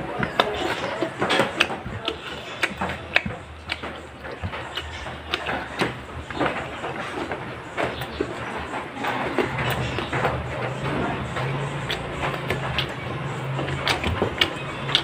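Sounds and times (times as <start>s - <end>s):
chewing and lip-smacking: 0.0s - 15.0s.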